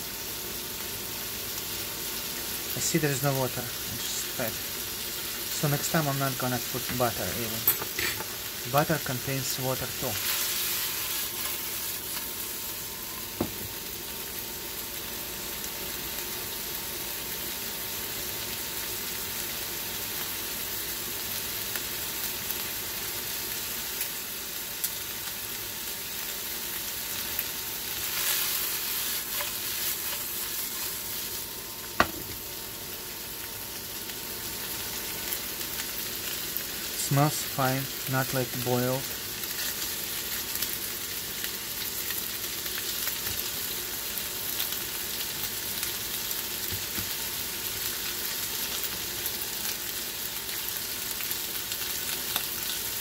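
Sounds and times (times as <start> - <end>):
beef sizzling in a skillet: 0.0 - 53.0.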